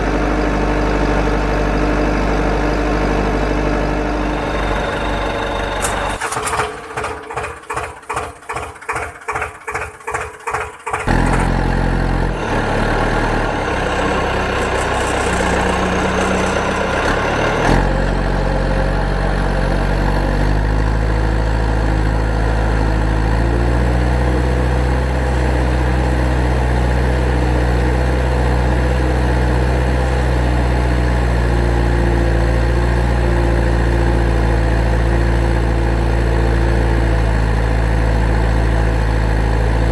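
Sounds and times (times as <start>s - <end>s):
vehicle engine cranking and running: 0.0s - 39.9s.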